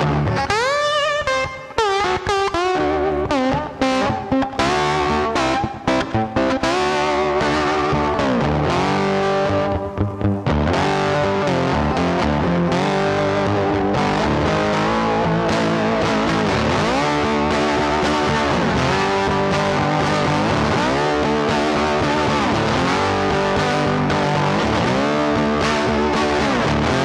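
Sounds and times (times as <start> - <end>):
rock music with electric guitar: 0.0 - 27.0.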